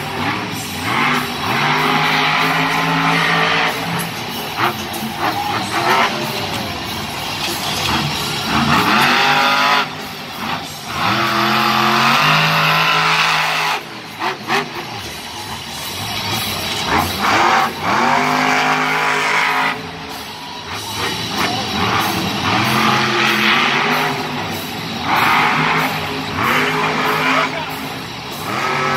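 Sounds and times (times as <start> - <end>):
monster truck engines revving: 0.0 - 28.9.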